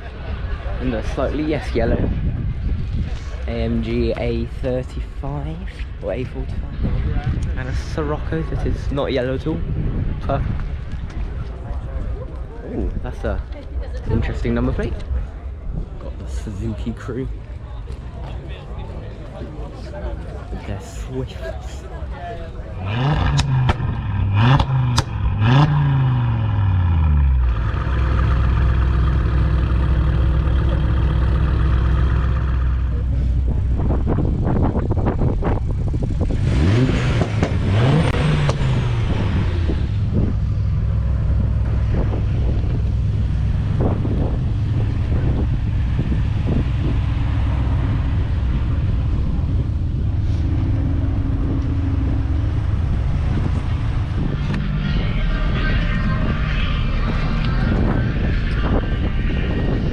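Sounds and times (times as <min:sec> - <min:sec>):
car engines revving: 0:00.0 - 0:59.9
low engine rumble: 0:00.0 - 0:59.9.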